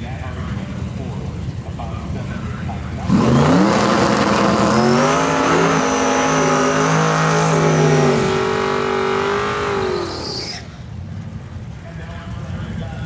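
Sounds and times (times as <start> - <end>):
drag car engine accelerating: 0.5 - 11.8.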